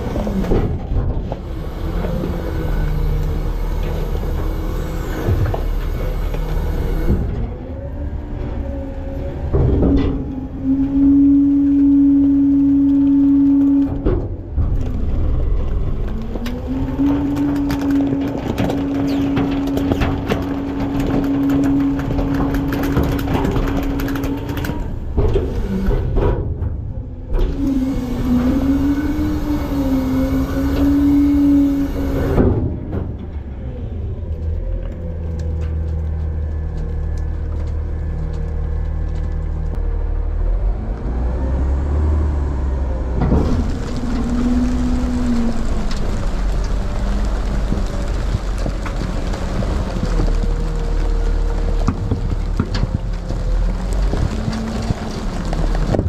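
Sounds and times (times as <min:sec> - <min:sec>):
diesel engine revving with whine: 0:00.0 - 0:56.0.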